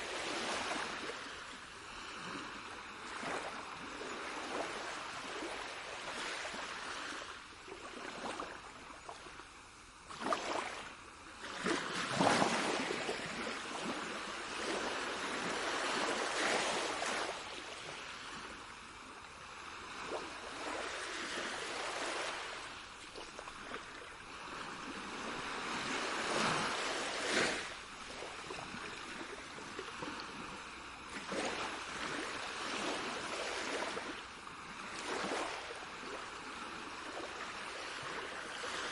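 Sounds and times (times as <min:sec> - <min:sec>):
water rushing and splashing: 0:00.0 - 0:03.7, 0:11.4 - 0:38.9.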